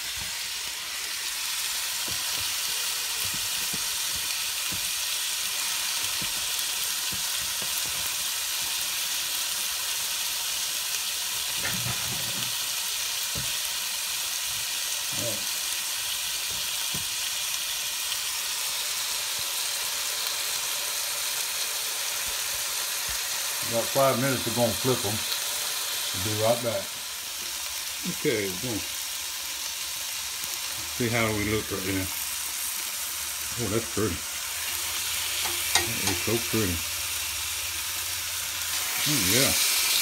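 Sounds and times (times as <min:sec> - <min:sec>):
meat sizzling in oil: 0:00.0 - 0:40.0.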